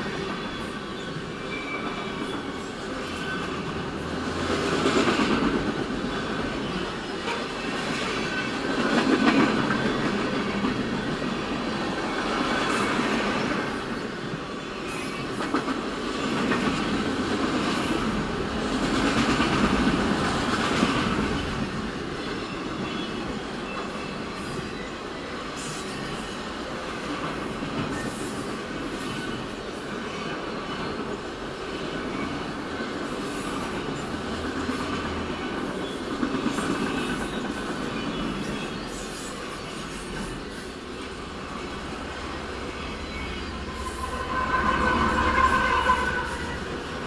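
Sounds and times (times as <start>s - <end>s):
freight train wheels rumbling: 0.0s - 47.0s.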